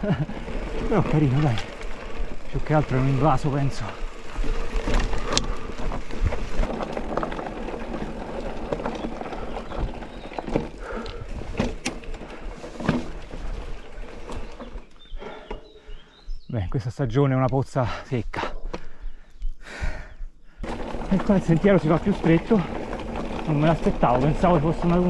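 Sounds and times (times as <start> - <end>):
bike tyres crunching over stones: 0.0 - 16.3, 20.6 - 25.0
gravel clicks and bike rattling: 0.0 - 25.0.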